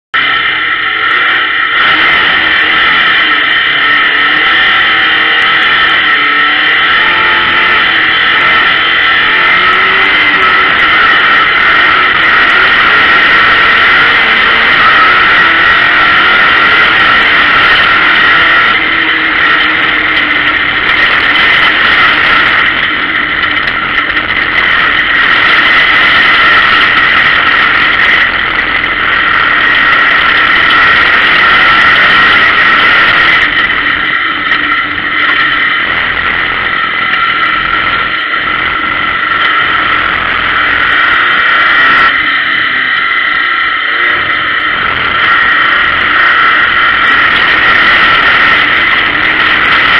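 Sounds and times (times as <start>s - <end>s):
race car engine running hard: 0.0s - 49.9s
steady high whine: 0.2s - 49.9s.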